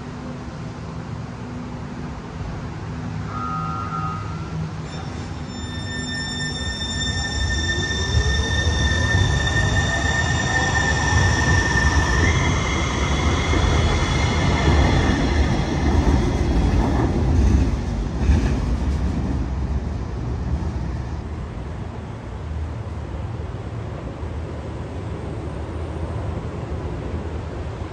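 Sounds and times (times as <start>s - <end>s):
train high whine: 0.0s - 27.9s
wheels rumbling on rails: 0.2s - 27.9s.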